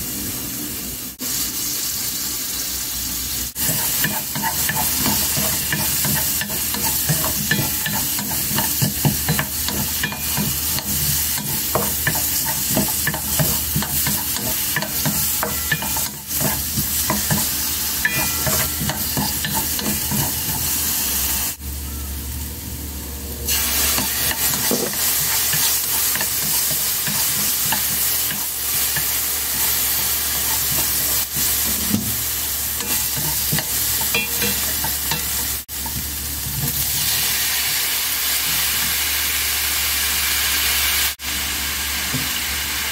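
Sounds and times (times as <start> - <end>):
carrots sizzling in oil: 0.0 - 21.7, 23.4 - 42.9.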